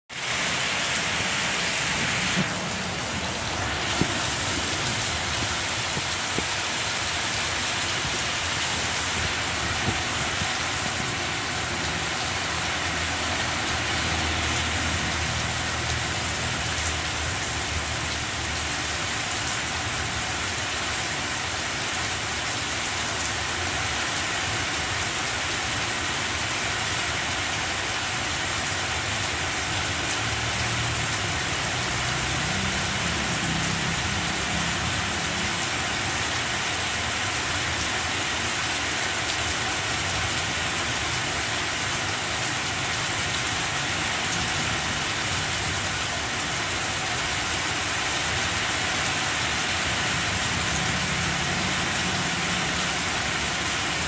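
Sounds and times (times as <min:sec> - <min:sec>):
rain falling on plants: 0:00.1 - 0:54.0.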